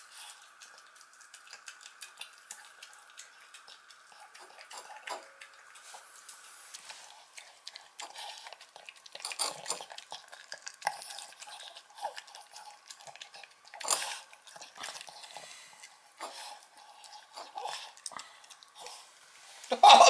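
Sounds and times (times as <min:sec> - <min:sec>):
dog licking and chewing: 0:00.0 - 0:19.2.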